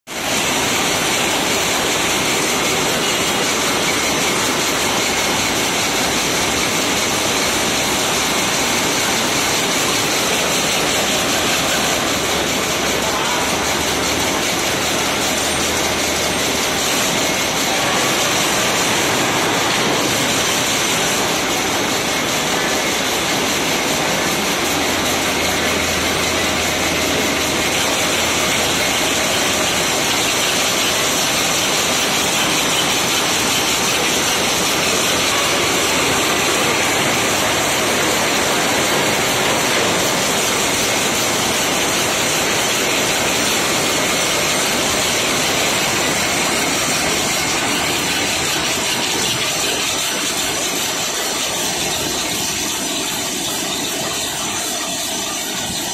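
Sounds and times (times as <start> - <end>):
weaving looms mechanical din: 0.1 - 55.9.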